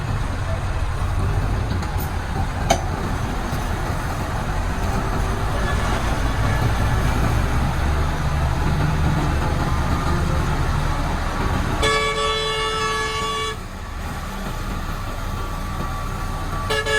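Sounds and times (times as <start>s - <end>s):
heavy diesel engines droning: 0.0s - 16.9s.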